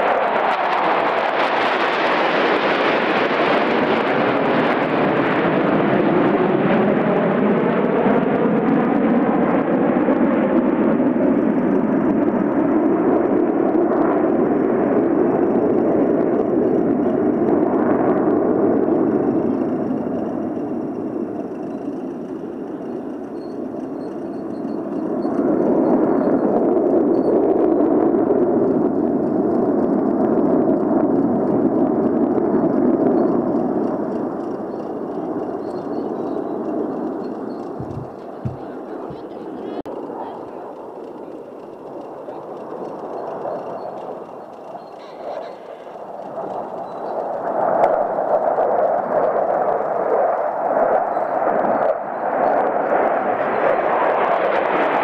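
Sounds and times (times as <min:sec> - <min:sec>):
fighter jets roaring past: 0:00.0 - 0:55.0.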